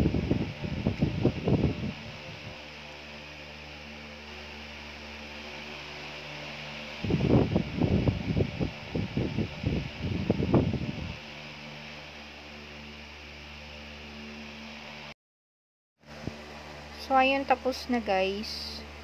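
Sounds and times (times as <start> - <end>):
steady low hum: 0.0 - 15.2, 16.0 - 19.0.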